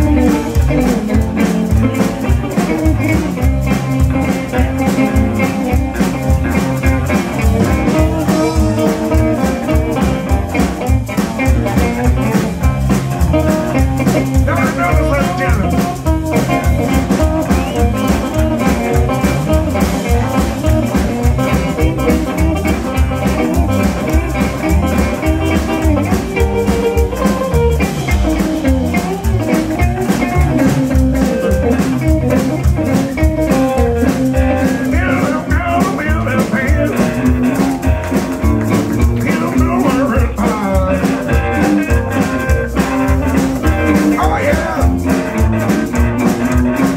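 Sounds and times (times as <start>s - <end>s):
drum kit: 0.0s - 46.9s
electric guitars: 0.0s - 46.9s
upright bass: 0.0s - 46.9s.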